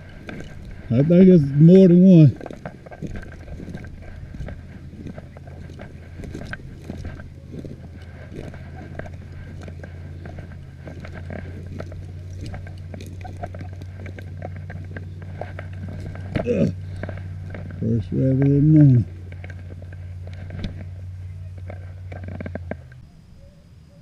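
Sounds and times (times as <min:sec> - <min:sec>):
twigs crackling and snapping: 0:00.0 - 0:23.0
footsteps through dry grass: 0:00.0 - 0:23.1
steady low hum: 0:00.0 - 0:24.0.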